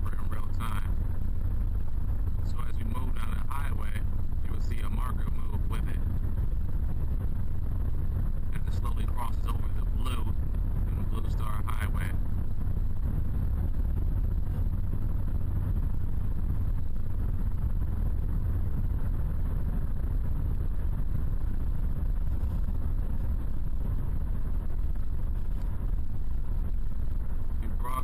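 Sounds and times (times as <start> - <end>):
vehicle driving at highway speed: 0.0 - 28.0.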